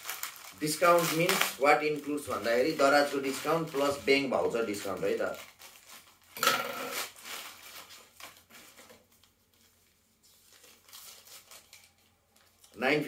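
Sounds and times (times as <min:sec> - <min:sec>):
plastic bag crinkling and tearing: 0:00.0 - 0:09.4, 0:10.4 - 0:13.0.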